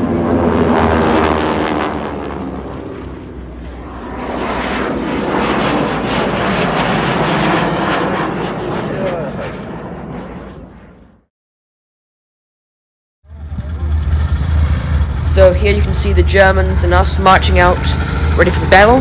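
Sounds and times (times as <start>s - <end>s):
propeller aircraft flying past: 0.0s - 11.3s, 13.3s - 19.0s.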